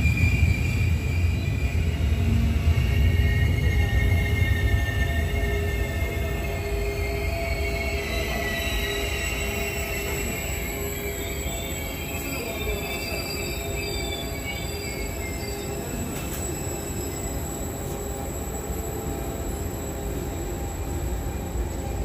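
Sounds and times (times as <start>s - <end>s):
low train rumble: 0.0s - 22.0s
train wheels squealing on rails: 0.0s - 22.0s.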